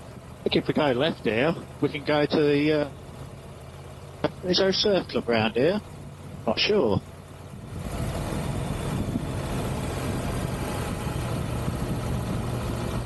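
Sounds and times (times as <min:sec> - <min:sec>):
motorcycle engine: 0:00.0 - 0:13.0
riding wind and road noise: 0:00.0 - 0:13.0.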